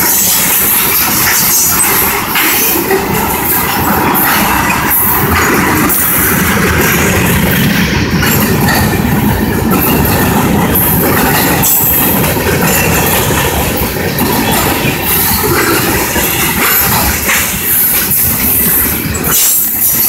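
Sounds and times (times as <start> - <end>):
freight train cars rolling: 0.0 - 20.0.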